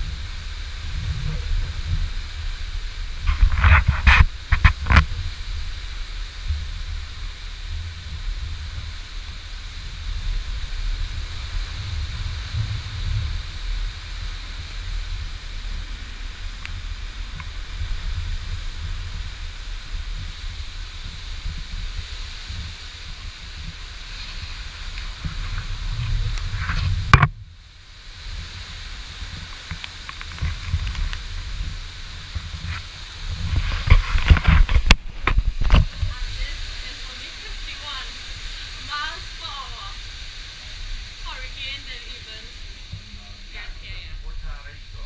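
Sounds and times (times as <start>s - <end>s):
strong wind buffeting microphone: 0.0s - 45.0s.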